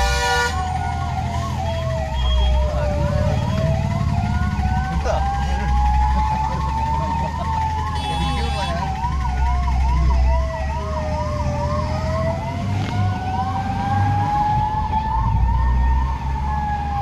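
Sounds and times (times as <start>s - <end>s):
fire engine siren yelp: 0.0s - 17.0s
siren slow wail: 0.0s - 17.0s
traffic: 0.0s - 17.0s
truck engines rumbling: 0.0s - 17.0s.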